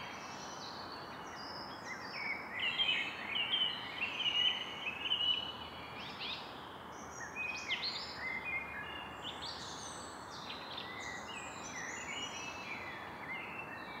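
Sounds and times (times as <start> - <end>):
songbirds singing: 0.0 - 14.0
steady background hiss: 0.0 - 14.0.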